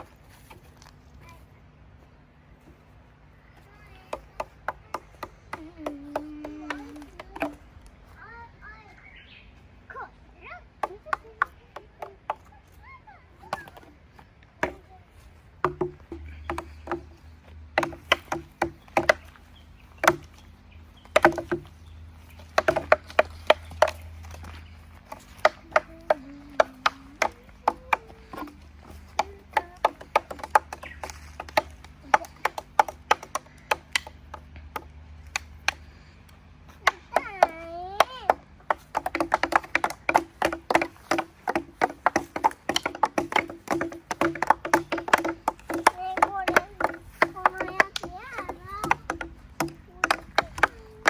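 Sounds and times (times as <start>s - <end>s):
stick knocking on driftwood: 3.6s - 7.7s, 10.8s - 12.5s, 13.4s - 36.1s, 36.7s - 51.0s.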